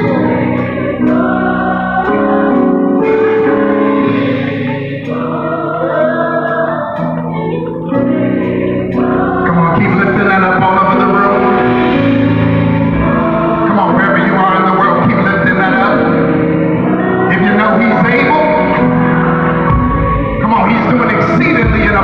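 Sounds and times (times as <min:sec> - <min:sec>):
men's vocal group singing gospel: 0:00.0 - 0:22.0.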